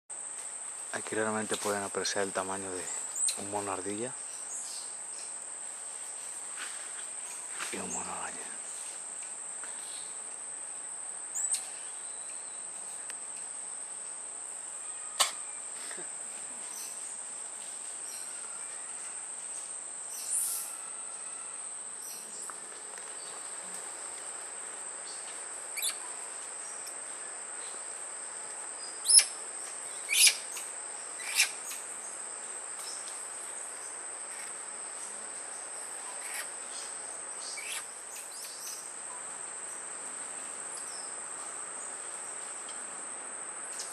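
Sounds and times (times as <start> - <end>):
insects buzzing: 0.1 - 43.9.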